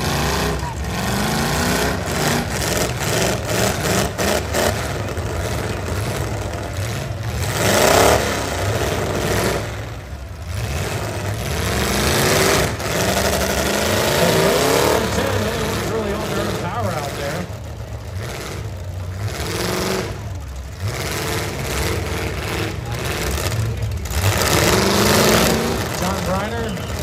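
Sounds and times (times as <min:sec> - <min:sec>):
truck engines revving: 0:00.0 - 0:27.0.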